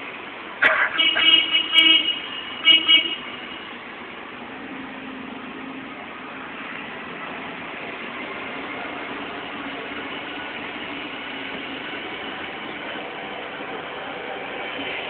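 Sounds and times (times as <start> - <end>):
bus engine running: 0.0 - 15.0
road and wind noise: 0.0 - 15.0.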